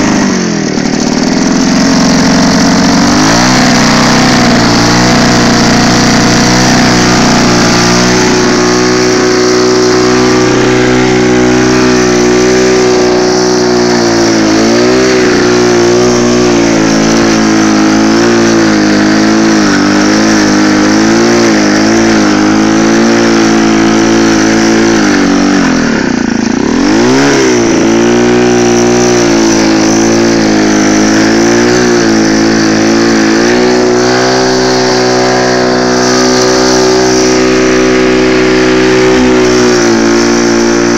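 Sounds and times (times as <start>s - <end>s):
lawn mower engine running: 0.0s - 40.9s.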